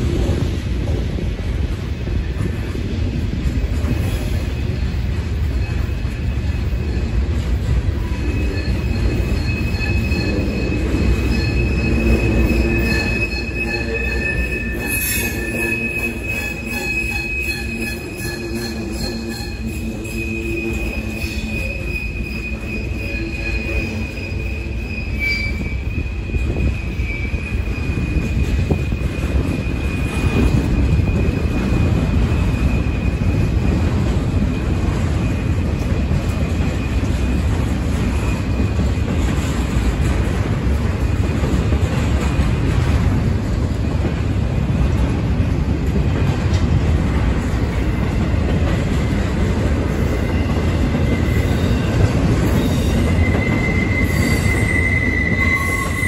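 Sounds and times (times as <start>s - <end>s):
freight train wheels rumbling: 0.0s - 56.0s
high squeal from train: 0.0s - 56.0s.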